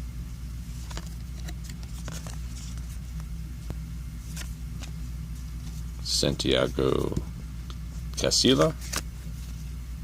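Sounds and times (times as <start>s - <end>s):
steady low hum: 0.0s - 10.0s
trading cards sliding and rustling: 0.6s - 7.2s, 7.9s - 9.8s.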